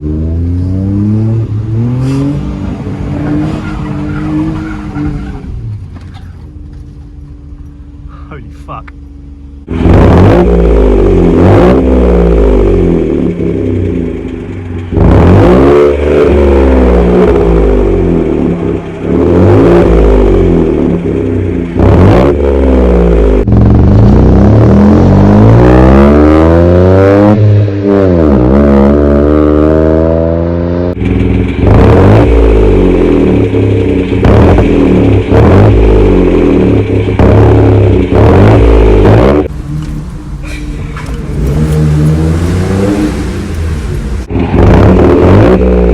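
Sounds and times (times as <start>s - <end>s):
car engine accelerating through gears: 0.0s - 7.8s, 9.5s - 45.9s.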